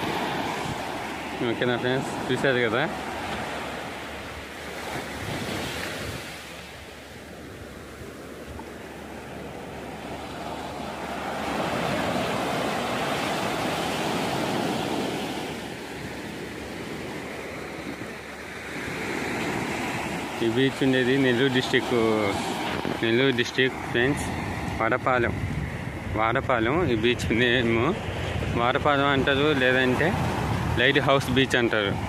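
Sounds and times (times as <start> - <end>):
surf washing onto beach: 0.0 - 32.0.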